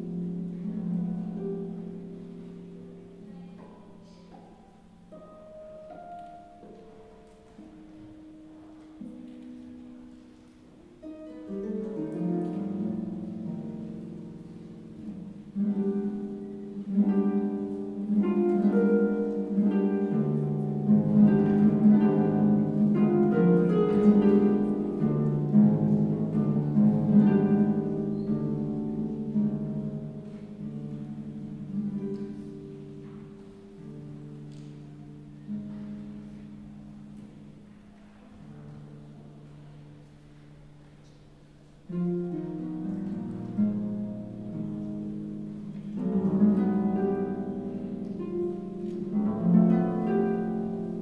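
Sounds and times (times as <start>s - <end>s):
harp playing arpeggios and chords: 0.0s - 40.5s, 41.1s - 51.0s.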